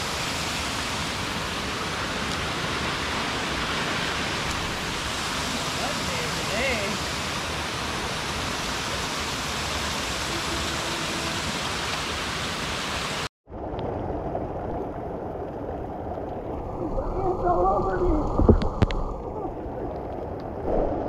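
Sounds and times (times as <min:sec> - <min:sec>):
waterfall rushing into pool: 0:00.0 - 0:20.8.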